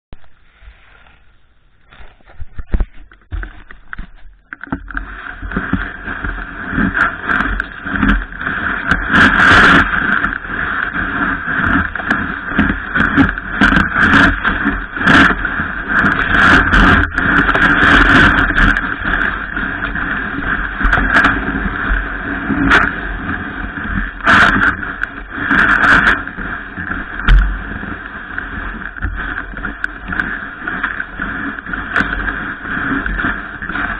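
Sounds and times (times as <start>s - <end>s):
snowboard sliding over snow: 0.1s - 33.9s
wind on microphone: 0.1s - 33.9s.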